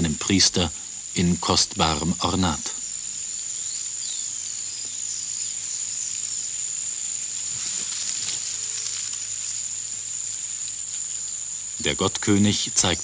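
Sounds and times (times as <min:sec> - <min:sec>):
faint chirps: 0:00.0 - 0:13.0
high-pitched insect drone: 0:00.0 - 0:13.0.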